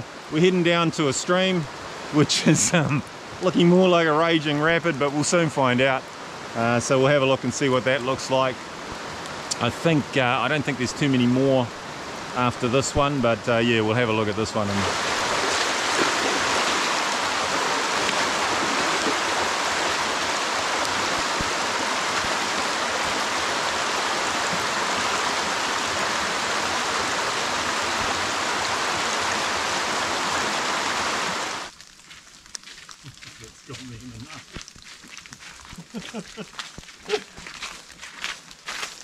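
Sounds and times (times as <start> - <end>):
stream rushing in flood: 0.0 - 32.2, 32.9 - 39.0.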